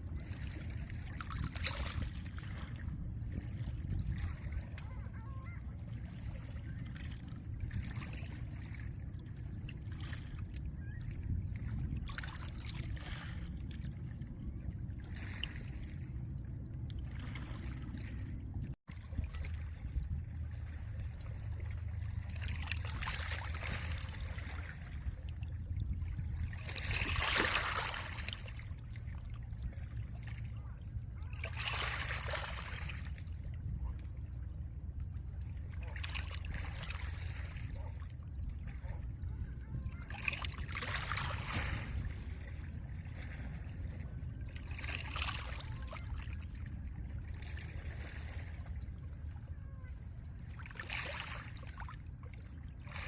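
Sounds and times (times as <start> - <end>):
low wind rumble: 0.0 - 50.7.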